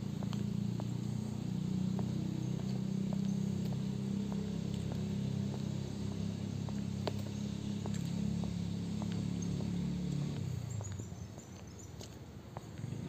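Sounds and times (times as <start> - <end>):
vehicle engine drone: 0.0 - 11.6, 12.4 - 13.0
footsteps on brick paving: 0.1 - 13.0.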